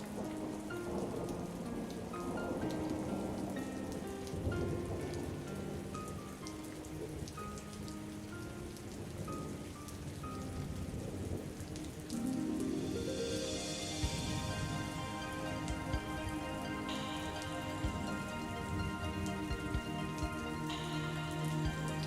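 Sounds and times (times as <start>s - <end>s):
slow melodic music: 0.0s - 22.0s
steady rain: 0.0s - 22.0s
thunder rumble: 0.0s - 22.0s.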